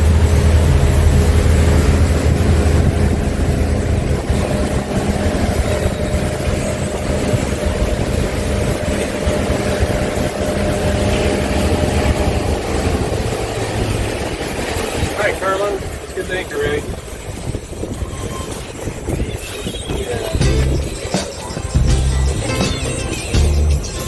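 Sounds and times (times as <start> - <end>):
motorboat engine running: 0.0 - 24.0
rushing water noise: 0.0 - 24.0.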